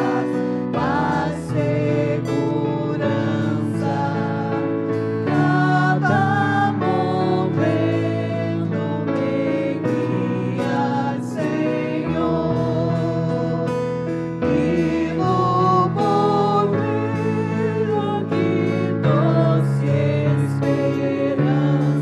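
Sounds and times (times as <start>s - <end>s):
acoustic guitar: 0.0s - 22.0s
digital piano: 0.0s - 22.0s
group singing a hymn: 0.0s - 22.0s.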